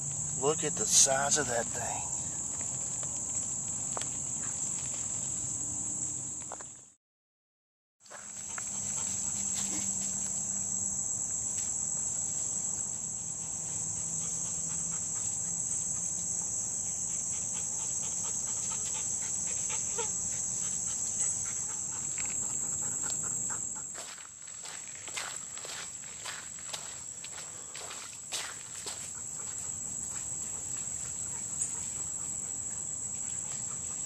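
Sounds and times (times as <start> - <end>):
insect chorus drone: 0.0 - 6.9, 8.1 - 34.0
footsteps on a trail: 2.1 - 5.6, 8.0 - 34.0.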